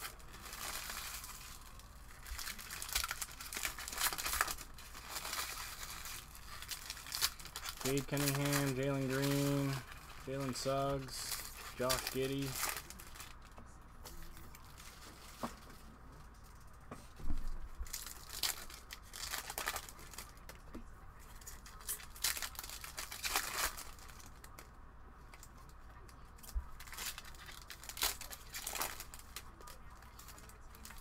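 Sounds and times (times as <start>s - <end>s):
foil wrappers tearing and crinkling: 0.0s - 15.7s, 17.8s - 20.6s, 21.2s - 24.7s, 25.4s - 31.0s.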